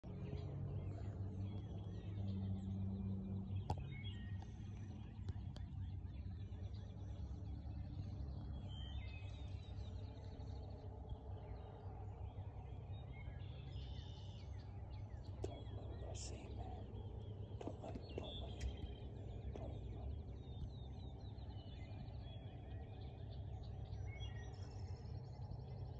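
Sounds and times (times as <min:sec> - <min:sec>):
songbirds chirping: 0:00.0 - 0:25.9
steady low hum: 0:00.0 - 0:25.9.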